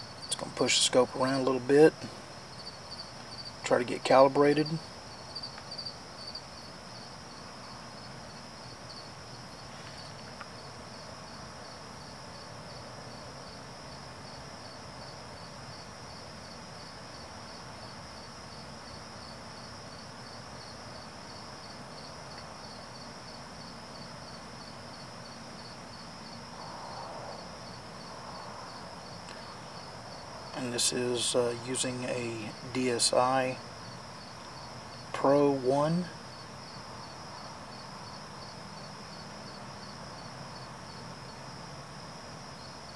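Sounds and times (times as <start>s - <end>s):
crickets chirping: 0.0s - 42.9s
high insect trill: 0.0s - 42.9s.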